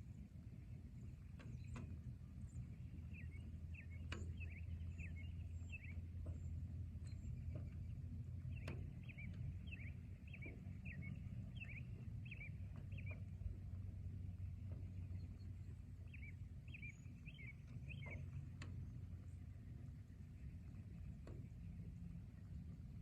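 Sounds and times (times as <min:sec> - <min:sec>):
bird chirping: 0:02.5 - 0:21.6.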